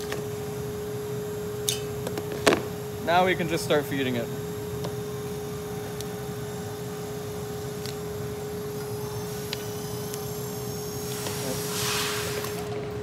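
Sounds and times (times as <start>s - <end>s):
wire stripping machine motor hum: 0.0s - 13.0s.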